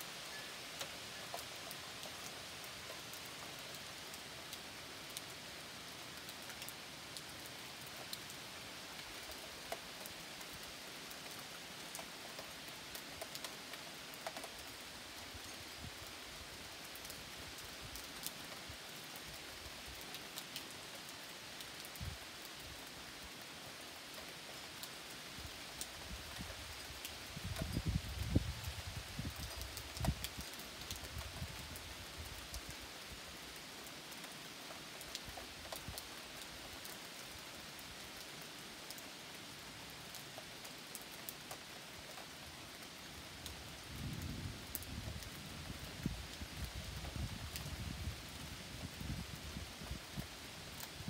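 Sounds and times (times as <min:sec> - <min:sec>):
rain falling: 0:00.0 - 0:51.0.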